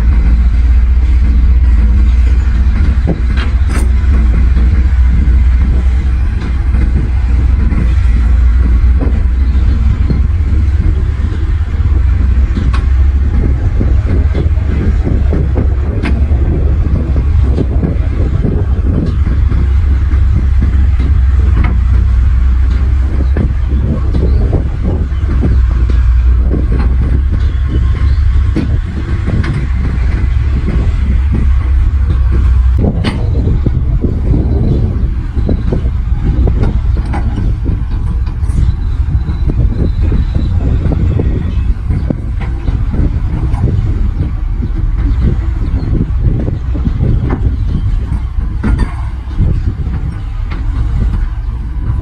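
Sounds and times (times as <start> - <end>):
bulldozer diesel rumble: 0.0 - 52.0
metal clanks and knocks: 0.0 - 52.0.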